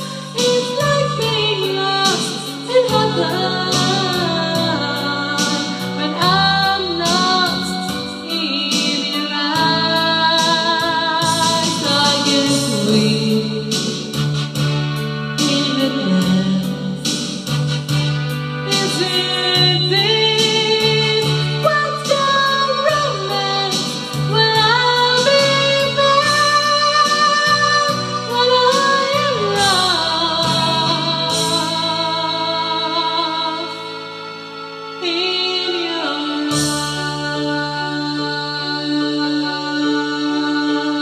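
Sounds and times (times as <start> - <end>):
woman singing slow song: 0.0 - 14.4, 15.3 - 17.5, 18.6 - 41.0
instrumental backing: 0.0 - 41.0.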